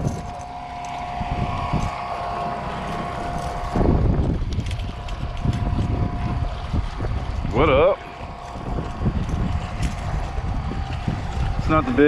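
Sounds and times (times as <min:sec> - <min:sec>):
steady hum: 0:00.0 - 0:12.0
wind buffeting microphone: 0:00.0 - 0:12.0.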